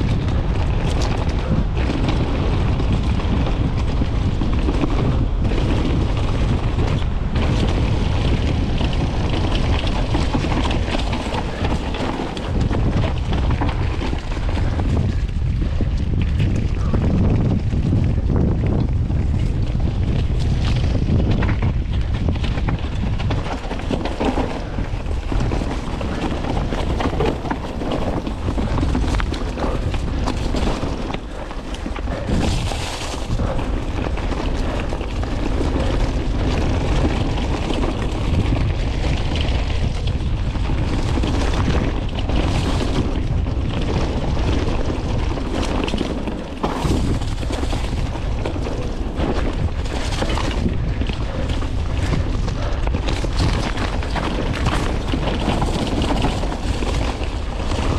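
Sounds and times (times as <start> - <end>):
bike rattling knocks: 0.0 - 57.9
low rumble of tyres: 0.0 - 57.9
wind buffeting microphone: 0.0 - 57.9.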